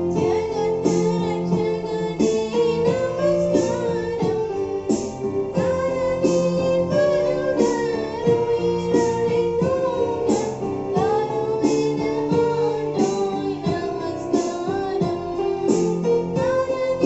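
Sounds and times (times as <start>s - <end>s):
girl singing a hymn: 0.0s - 4.9s, 5.5s - 17.0s
electronic keyboard with beat: 0.0s - 17.0s.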